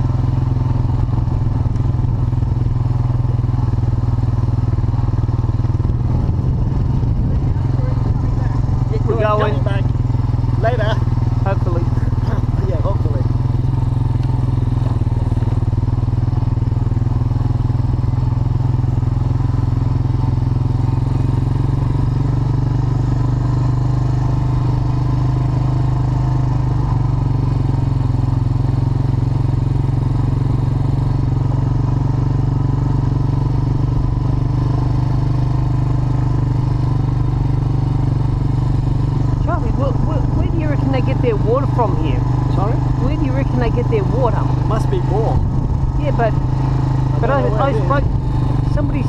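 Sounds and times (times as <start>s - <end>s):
quad bike engine droning: 0.0s - 49.0s.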